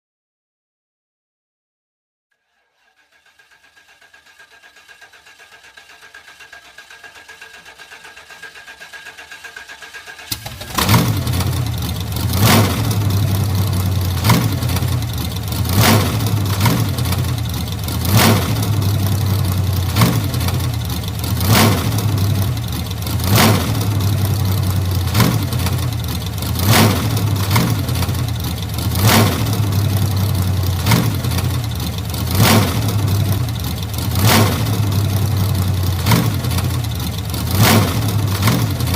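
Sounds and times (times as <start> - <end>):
car engine cranking: 2.8 - 38.9
car engine running: 4.1 - 38.9.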